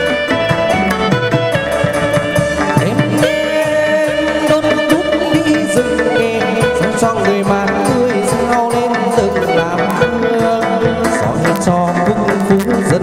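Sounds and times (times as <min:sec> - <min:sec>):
bamboo flute melody: 0:00.0 - 0:13.0
steady drum beat: 0:00.0 - 0:13.0.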